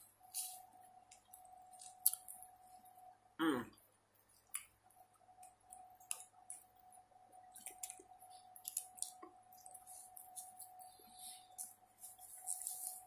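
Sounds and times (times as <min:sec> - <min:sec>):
faint steady hum: 0:00.0 - 0:13.0
soft wet chewing: 0:00.2 - 0:02.7, 0:04.1 - 0:13.0.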